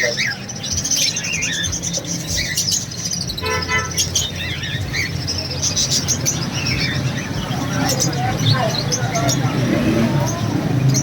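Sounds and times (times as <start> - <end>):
low traffic rumble: 0.0 - 11.0
small birds chirping: 0.0 - 11.0.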